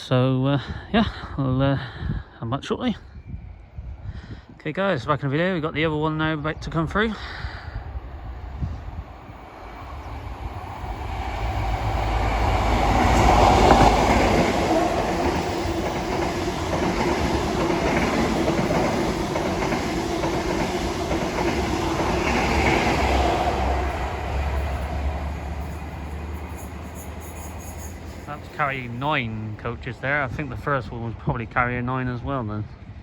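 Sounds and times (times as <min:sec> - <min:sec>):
train passing rumble: 0:05.4 - 0:33.0.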